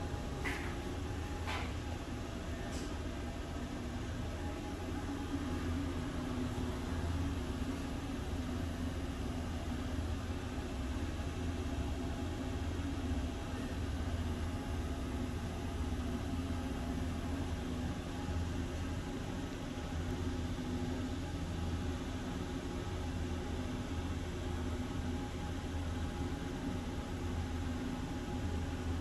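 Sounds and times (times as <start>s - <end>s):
electric railcar rumble and hum: 0.0s - 29.0s.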